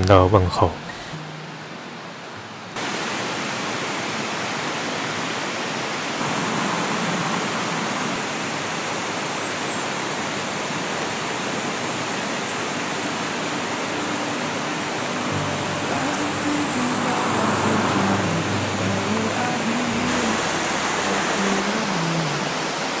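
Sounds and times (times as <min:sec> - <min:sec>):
creek water rushing: 0:00.0 - 0:23.0.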